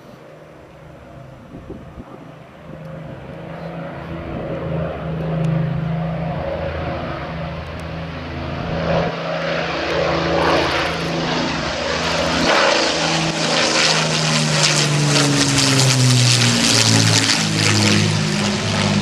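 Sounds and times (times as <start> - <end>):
propeller aircraft engines flypast: 0.0 - 19.0.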